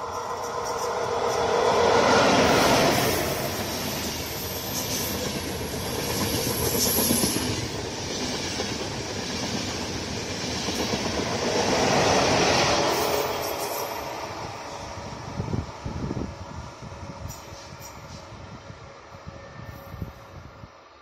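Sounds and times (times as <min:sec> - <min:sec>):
train wheels rushing on rails: 0:00.0 - 0:20.4.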